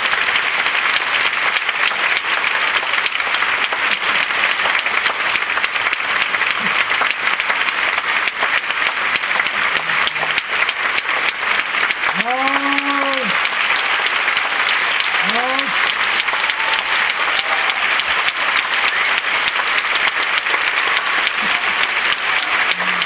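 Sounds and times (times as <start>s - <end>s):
audience applauding: 0.0s - 23.0s.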